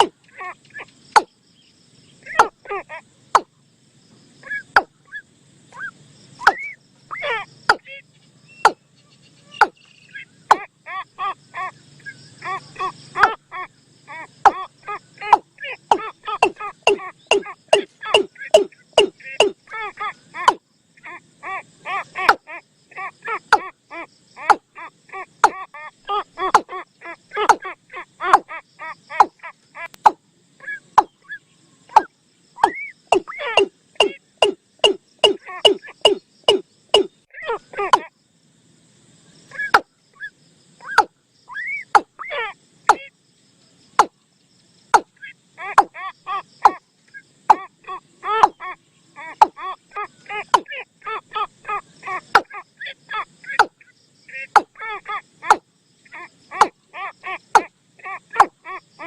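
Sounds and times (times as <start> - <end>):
bird call lure recording: 2.1 - 3.5, 4.4 - 38.1, 39.5 - 43.1, 44.9 - 58.8.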